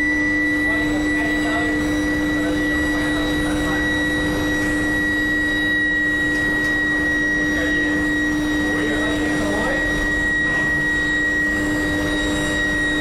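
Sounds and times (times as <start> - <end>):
electrical hum with high whine: 0.0 - 13.0.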